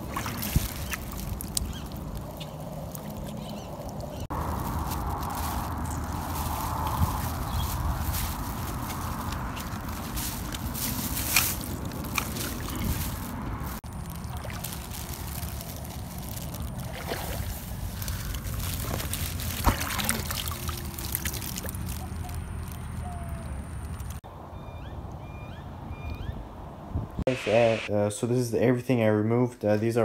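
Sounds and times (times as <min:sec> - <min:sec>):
pond water sloshing and trickling: 0:00.0 - 0:24.2.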